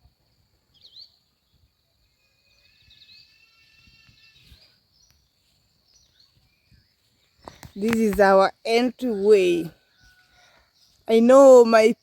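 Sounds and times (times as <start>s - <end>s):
bird calls: 0.7s - 12.0s.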